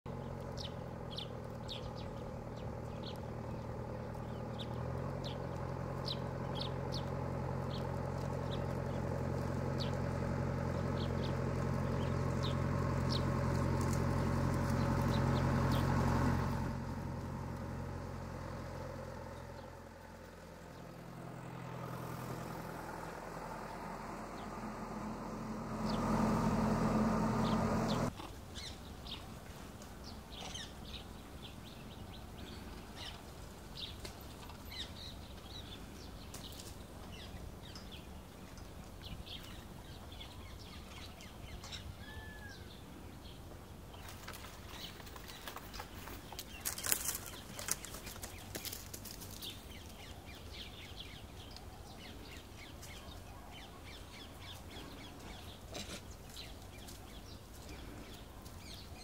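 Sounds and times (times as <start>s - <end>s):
vehicle engine running: 0.0s - 59.0s
birds chirping: 0.1s - 59.0s.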